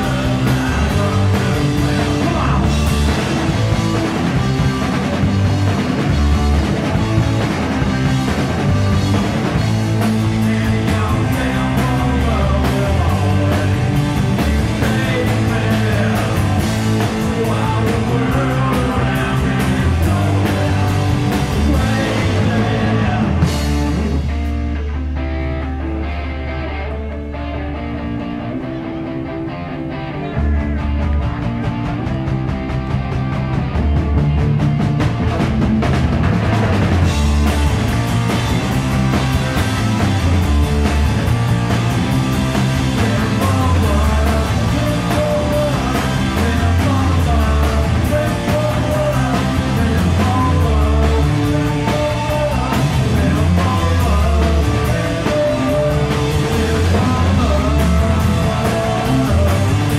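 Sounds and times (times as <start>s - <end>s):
punk rock band playing live: 0.0s - 59.9s.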